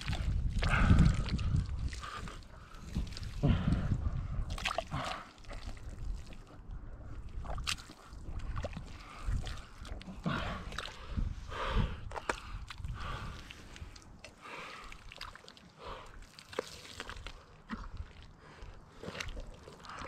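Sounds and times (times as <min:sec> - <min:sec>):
wet mud squelching and sloshing: 0:00.0 - 0:20.0.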